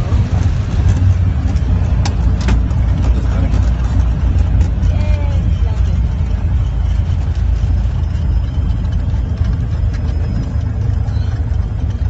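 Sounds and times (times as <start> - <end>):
aircraft engine idling: 0.0 - 12.0.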